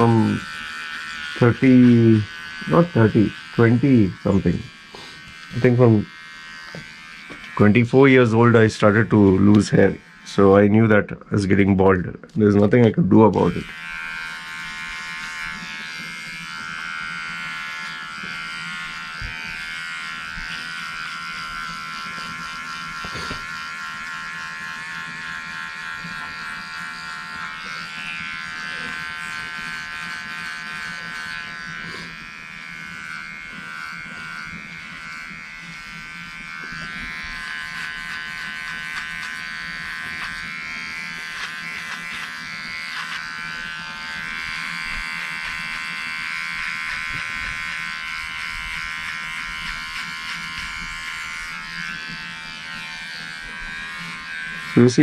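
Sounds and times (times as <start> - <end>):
cordless clipper buzzing: 0.0 - 10.9, 12.2 - 55.0.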